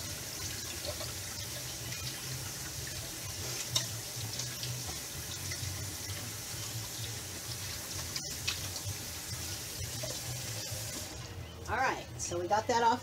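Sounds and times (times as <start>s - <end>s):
faucet running: 0.0s - 11.8s.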